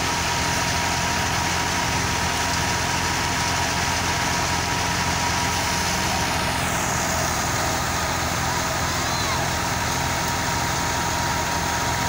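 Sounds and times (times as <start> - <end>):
tractor diesel engine drone: 0.0 - 12.0.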